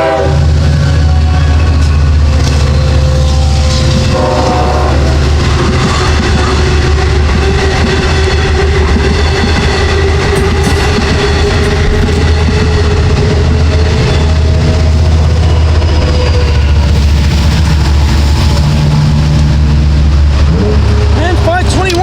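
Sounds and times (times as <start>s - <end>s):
train horn tones: 0.0s - 16.6s, 18.2s - 22.0s
diesel locomotive drone: 0.0s - 22.0s
rail clatter: 0.0s - 22.0s.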